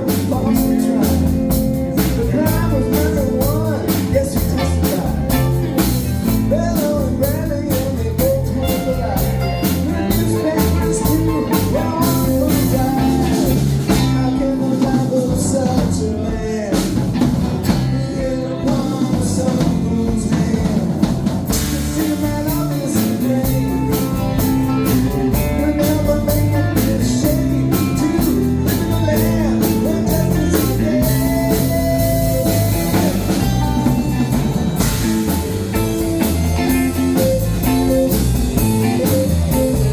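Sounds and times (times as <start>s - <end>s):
blues-rock band playing: 0.0s - 39.9s
drum kit beat: 0.0s - 39.9s
guitar: 0.0s - 39.9s.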